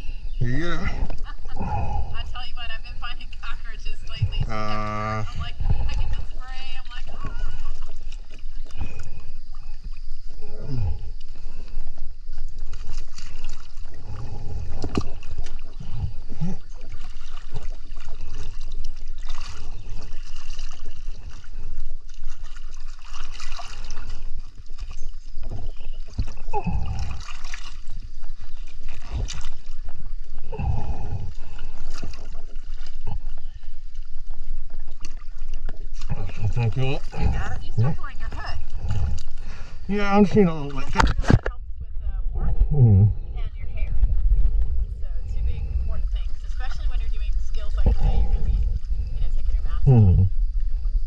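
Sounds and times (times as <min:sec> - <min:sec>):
steady low rumble: 0:00.0 - 0:51.0
water sloshing and gurgling: 0:00.0 - 0:51.0.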